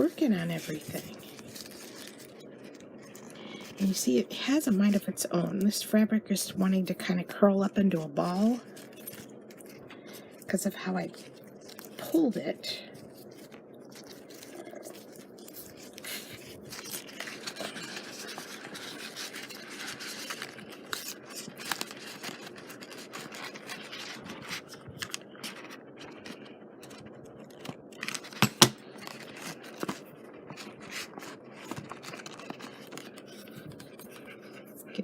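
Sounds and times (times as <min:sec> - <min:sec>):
fabric rustling and scraping on paper: 0:00.0 - 0:05.7, 0:06.5 - 0:35.0.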